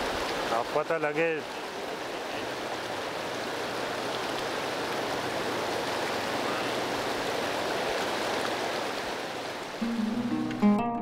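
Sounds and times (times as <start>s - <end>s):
river rushing over stones: 0.0s - 10.6s.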